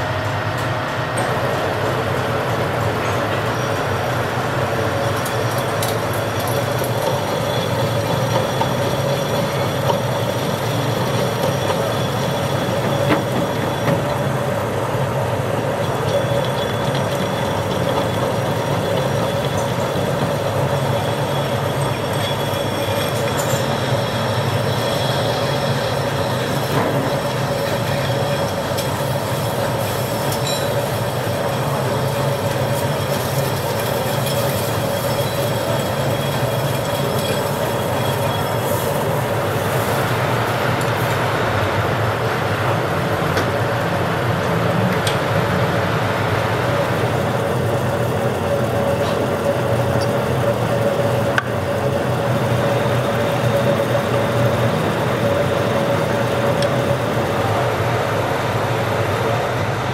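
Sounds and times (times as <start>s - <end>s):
metal lathe cutting steel: 0.0s - 59.9s.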